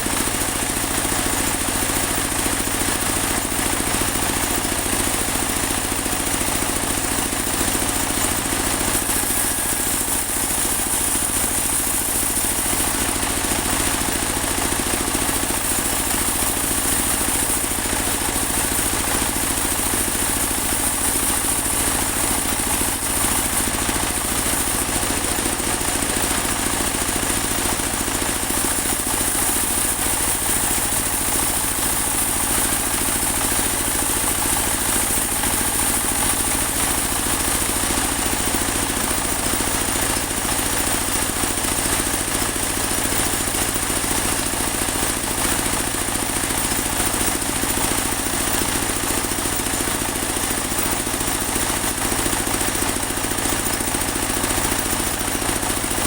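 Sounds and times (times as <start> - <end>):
sawmill engine drone: 0.0 - 56.0.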